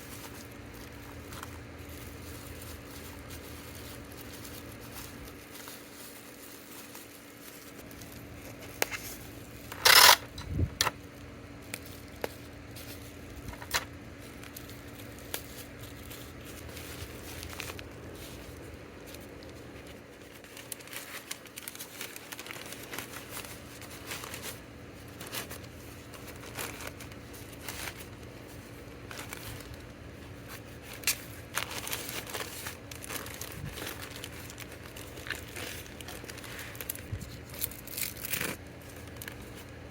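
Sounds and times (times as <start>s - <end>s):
plastic packaging crinkling: 0.0s - 39.9s.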